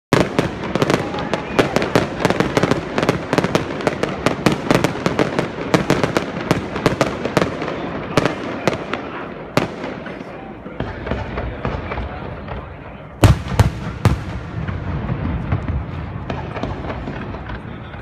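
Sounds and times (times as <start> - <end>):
fireworks bangs: 0.1 - 18.0.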